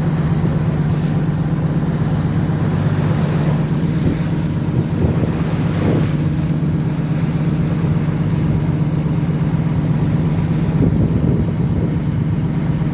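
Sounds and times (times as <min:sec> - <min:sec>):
motor engine humming: 0:00.0 - 0:12.9
sea noise: 0:00.0 - 0:12.9
wind: 0:00.0 - 0:12.9.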